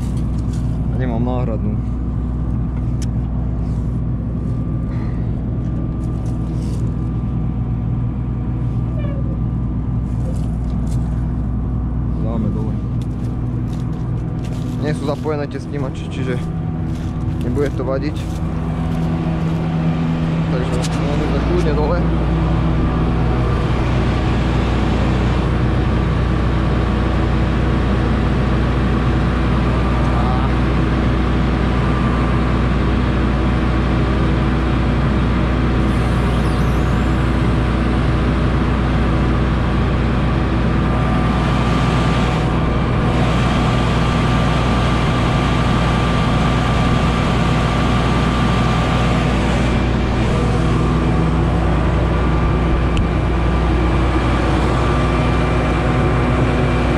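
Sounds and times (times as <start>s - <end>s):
combine harvester running: 0.0s - 56.9s.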